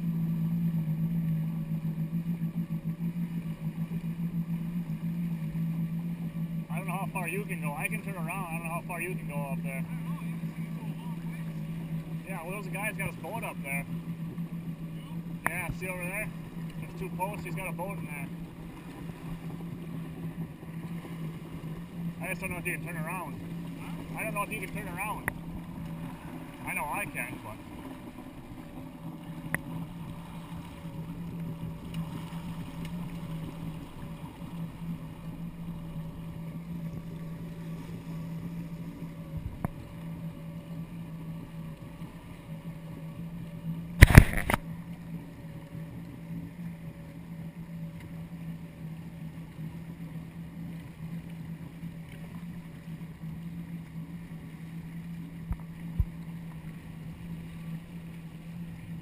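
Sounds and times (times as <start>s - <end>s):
watercraft engine humming: 0.0s - 59.0s.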